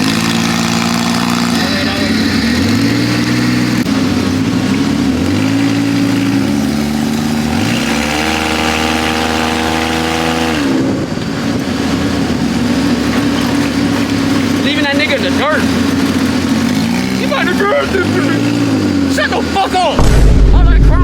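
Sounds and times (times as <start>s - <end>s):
atv engine accelerating: 0.0s - 20.2s
wind: 0.0s - 21.0s.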